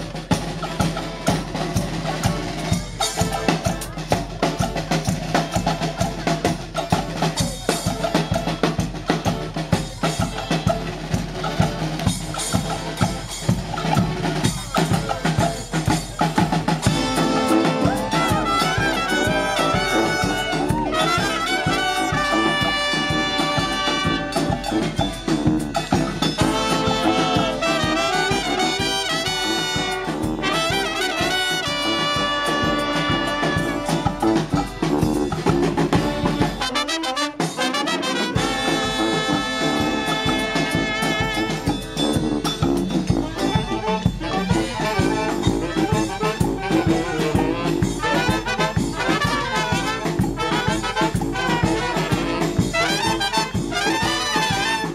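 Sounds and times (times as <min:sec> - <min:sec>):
brass horns playing melody: 0:00.0 - 0:54.9
drums and percussion: 0:00.0 - 0:54.9.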